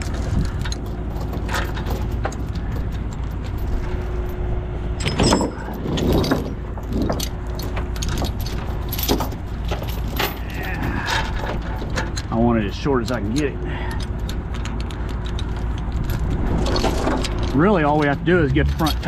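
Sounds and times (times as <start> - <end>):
chain clanks: 0.0 - 19.0
chain clinking and rattling: 0.0 - 19.0
truck engine running: 0.0 - 19.0.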